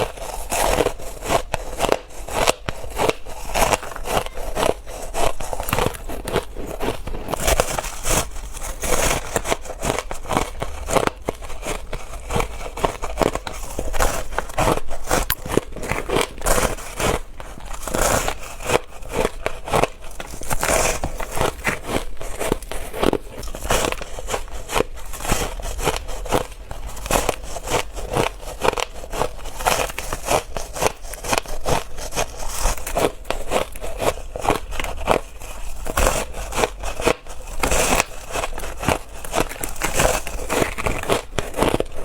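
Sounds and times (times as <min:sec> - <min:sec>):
ice crunching while chewed: 0:00.0 - 0:42.0.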